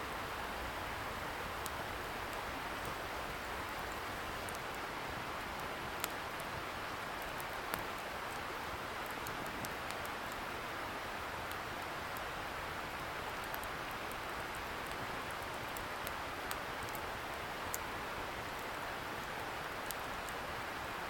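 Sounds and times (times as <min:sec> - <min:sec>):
campfire crackling and popping: 0:01.0 - 0:10.6, 0:11.2 - 0:20.4.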